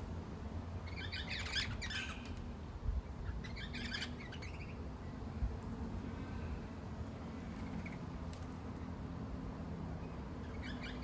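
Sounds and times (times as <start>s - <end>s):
birds chirping: 0.7s - 8.9s, 9.9s - 11.0s.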